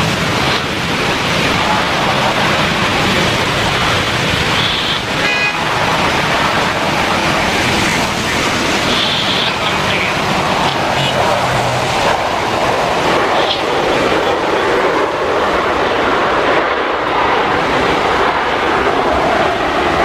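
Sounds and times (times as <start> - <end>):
jet engine roar: 0.0 - 20.0
rain hissing: 0.0 - 20.0.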